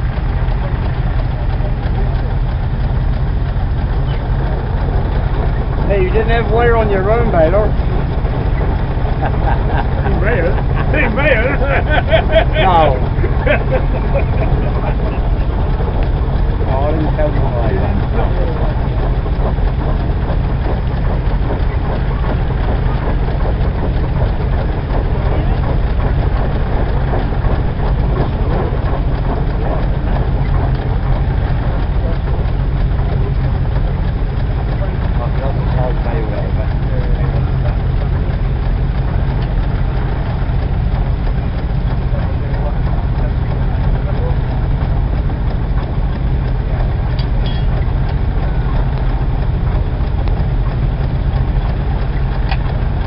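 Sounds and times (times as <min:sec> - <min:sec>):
baler machinery running: 0:00.0 - 0:53.0
heavy engine rumbling: 0:00.0 - 0:53.0.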